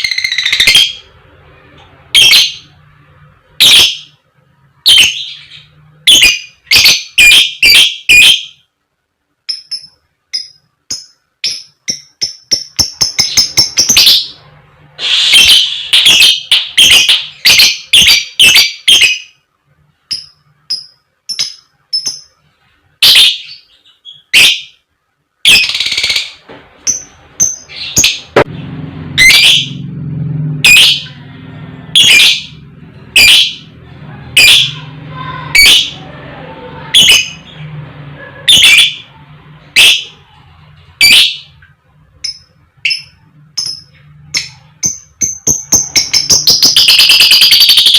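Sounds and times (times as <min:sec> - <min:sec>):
lovebird harsh calls and chirps: 0:00.0 - 0:01.2, 0:02.0 - 0:02.8, 0:03.6 - 0:04.2, 0:04.8 - 0:08.7, 0:09.5 - 0:19.4, 0:20.1 - 0:22.4, 0:23.0 - 0:24.8, 0:25.4 - 0:29.8, 0:30.6 - 0:31.3, 0:31.9 - 0:37.8, 0:38.5 - 0:41.6, 0:42.2 - 0:47.9.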